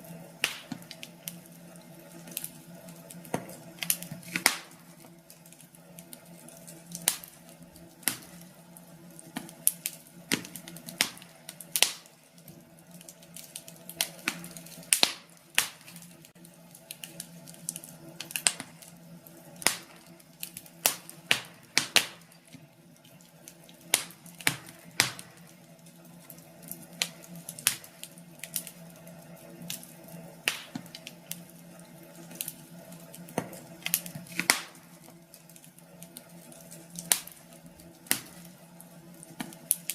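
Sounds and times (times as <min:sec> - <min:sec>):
low steady hum: 0:00.0 - 0:39.9
wood fire crackling and popping: 0:00.0 - 0:39.9.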